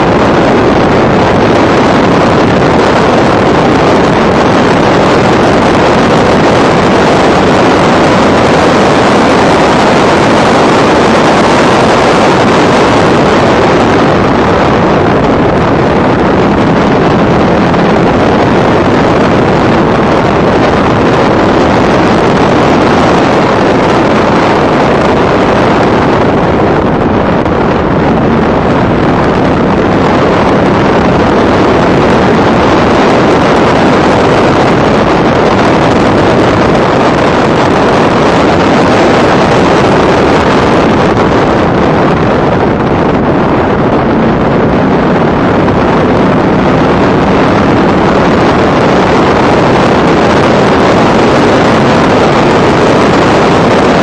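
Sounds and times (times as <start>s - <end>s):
race car engine running hard: 0.0s - 54.0s
wind buffeting microphone: 0.0s - 54.0s.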